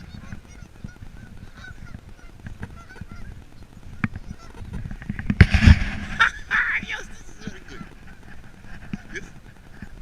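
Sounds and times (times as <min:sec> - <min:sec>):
geese honking: 0:00.0 - 0:10.0.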